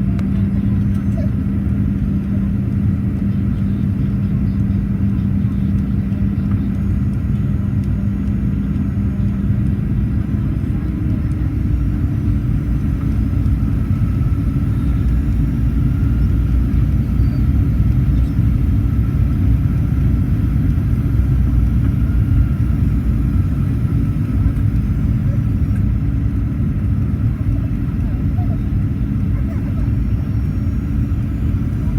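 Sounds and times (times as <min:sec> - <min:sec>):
aircraft cabin engine rumble: 0:00.0 - 0:31.9
low hum: 0:00.0 - 0:31.9.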